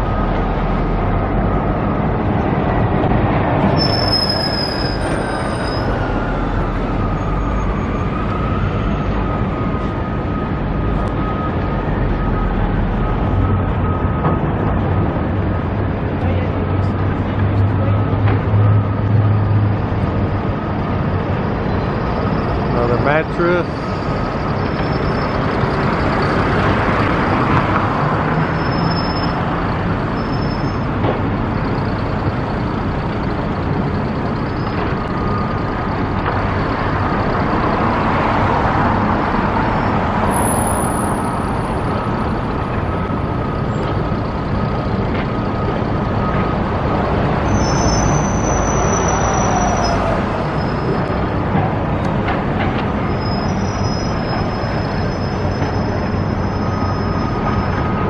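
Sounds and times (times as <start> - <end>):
buses and trucks passing: 0.0 - 58.0
road traffic noise: 0.0 - 58.0.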